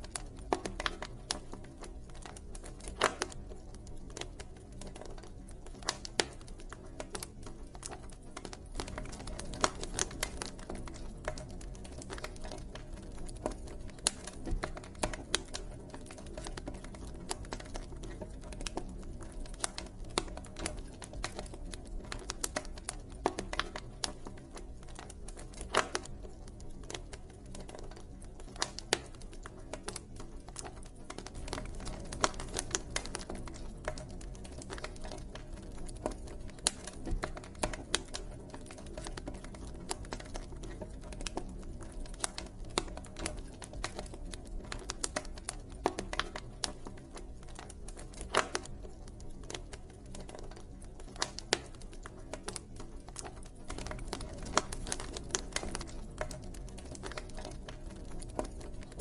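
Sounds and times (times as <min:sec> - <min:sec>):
campfire wood crackling and popping: 0:00.0 - 0:59.0
low rumble of flames: 0:00.0 - 0:59.0.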